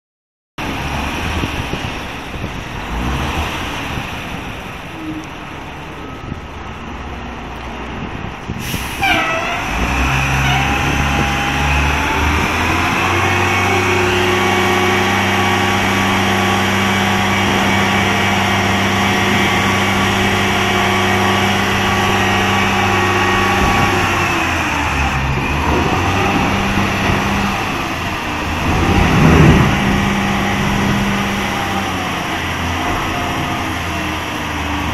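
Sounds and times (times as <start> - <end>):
diesel truck engine under load: 0.6 - 34.9.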